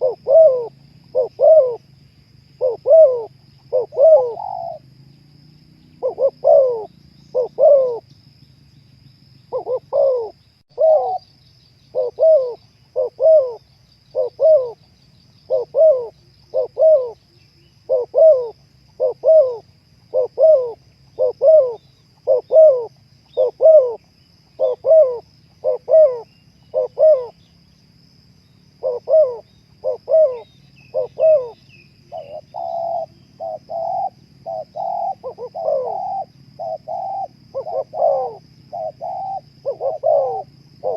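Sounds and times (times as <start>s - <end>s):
dove cooing: 0.0s - 1.9s, 2.5s - 5.0s, 5.9s - 8.1s, 9.5s - 11.3s, 11.9s - 17.2s, 17.8s - 27.5s, 28.7s - 40.9s.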